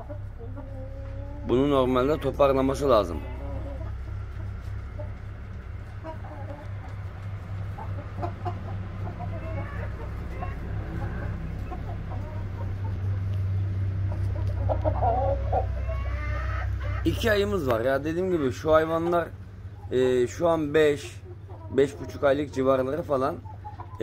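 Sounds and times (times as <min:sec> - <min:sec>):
chickens clucking: 0:00.0 - 0:24.0
steady low hum: 0:00.0 - 0:24.0.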